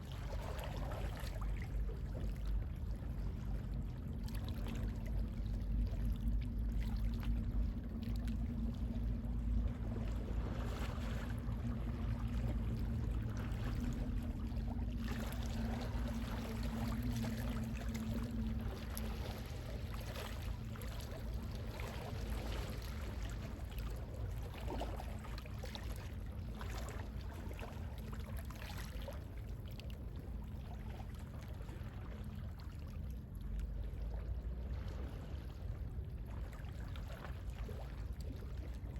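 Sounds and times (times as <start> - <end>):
sea waves lapping: 0.0 - 32.8
low hum: 0.0 - 38.9
wind rumble on microphone: 0.0 - 38.9.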